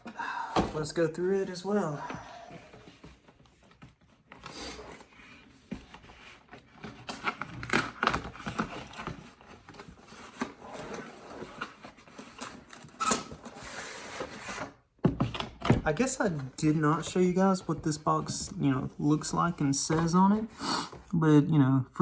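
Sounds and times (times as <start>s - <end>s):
cardboard scraping and rustling: 2.7s - 21.1s.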